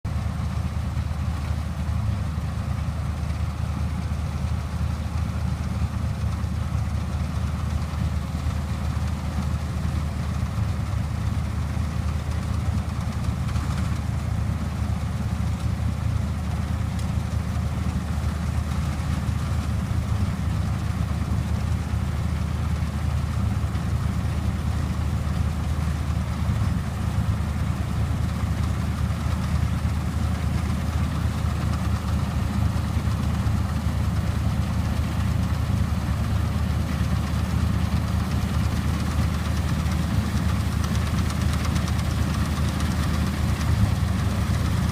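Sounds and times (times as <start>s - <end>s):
combine harvester engine drone: 0.1s - 44.9s.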